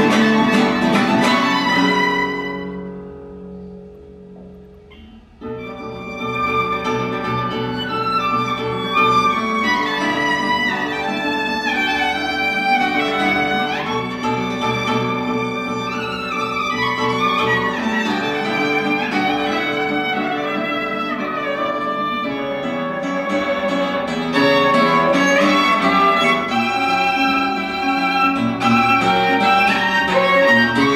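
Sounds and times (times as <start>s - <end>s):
violin melody: 0.0s - 3.7s, 5.4s - 30.9s
plucked classical guitar: 0.0s - 30.9s.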